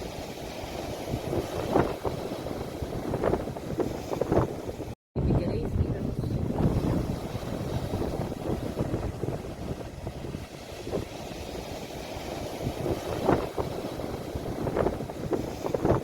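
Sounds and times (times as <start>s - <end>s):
sea waves washing ashore: 0.0s - 16.0s
wind noise on microphone: 0.0s - 16.0s.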